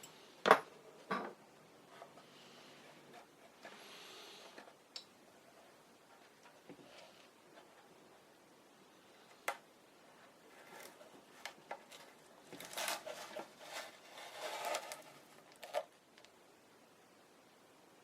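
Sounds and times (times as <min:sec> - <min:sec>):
rustling and scraping of parts: 0:00.0 - 0:04.8, 0:05.4 - 0:08.3, 0:09.2 - 0:16.3.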